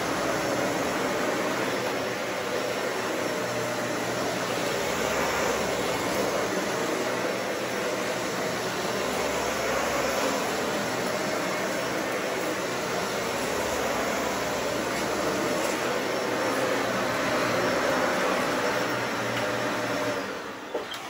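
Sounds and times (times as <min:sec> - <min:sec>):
vacuum cleaner on carpet: 0:00.0 - 0:21.0.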